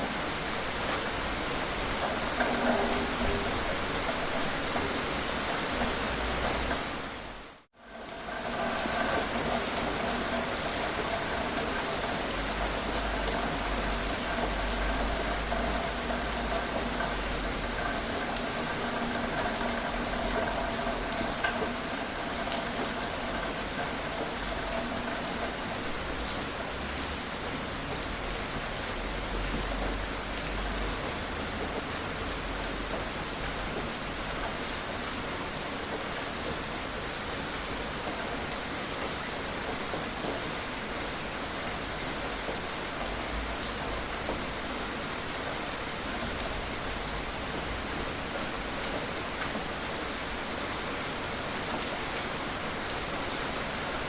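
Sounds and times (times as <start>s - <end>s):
gentle rain hissing: 0.0s - 54.0s
raindrops ticking: 0.1s - 53.9s.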